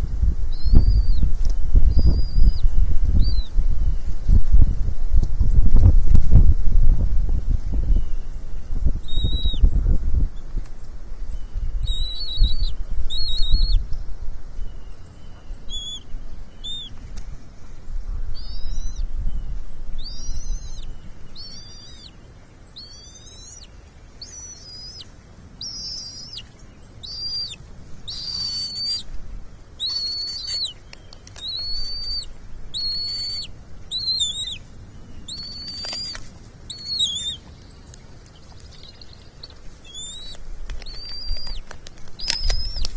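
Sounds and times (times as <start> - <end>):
wind on microphone: 0.0 - 22.2, 22.8 - 42.9
eagle piping calls: 0.5 - 4.1, 7.8 - 9.7, 11.4 - 13.9, 14.6 - 17.0, 18.1 - 37.9, 38.5 - 42.9.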